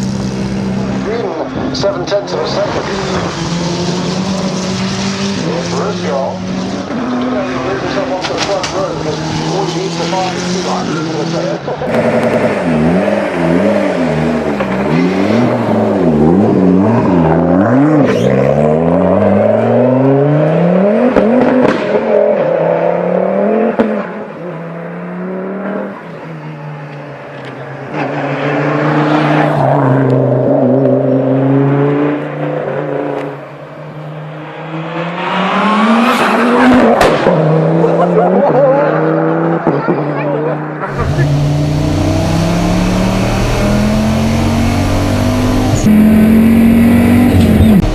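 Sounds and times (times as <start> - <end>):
race car engine revving: 0.0 - 26.3, 34.2 - 47.9.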